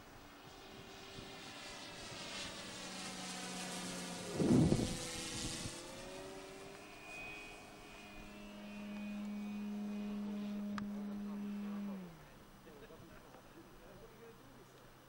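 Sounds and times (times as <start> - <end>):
model airplane motor humming: 0.0 - 13.4.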